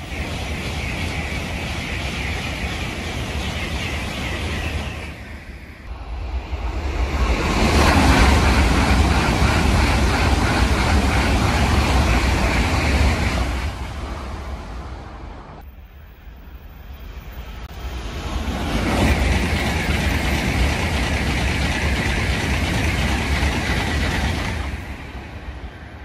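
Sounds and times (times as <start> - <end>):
high-speed train passing: 0.0 - 26.0.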